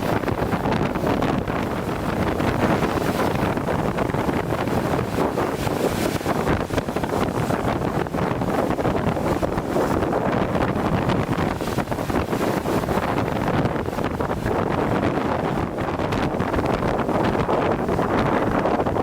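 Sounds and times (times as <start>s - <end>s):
lake waves crashing on breakwater: 0.0s - 19.0s
wind buffeting microphone: 0.0s - 19.0s.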